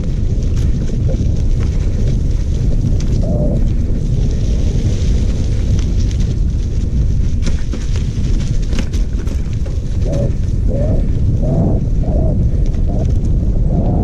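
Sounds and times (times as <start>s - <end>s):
footsteps crunching leaves and twigs: 0.0s - 11.4s
wind buffeting microphone: 0.0s - 14.0s.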